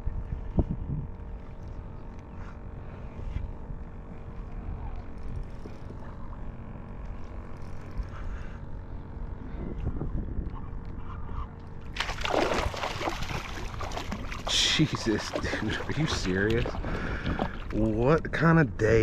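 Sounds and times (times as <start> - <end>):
faint steady hum: 0.0 - 19.0
wind rumbling on microphone: 0.0 - 19.0.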